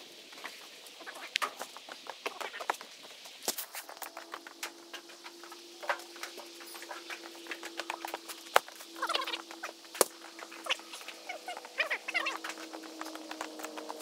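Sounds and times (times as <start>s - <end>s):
footsteps on wooden planks: 1.5s - 14.0s.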